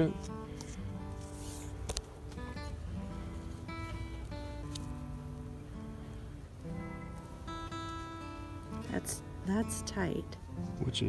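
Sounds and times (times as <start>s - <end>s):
acoustic guitar playing held notes: 0.0s - 11.0s.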